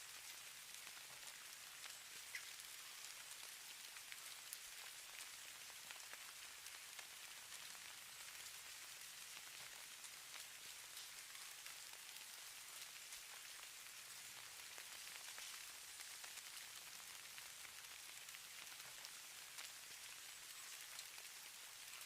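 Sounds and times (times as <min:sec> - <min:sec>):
snow pattering faintly: 0:00.0 - 0:22.0.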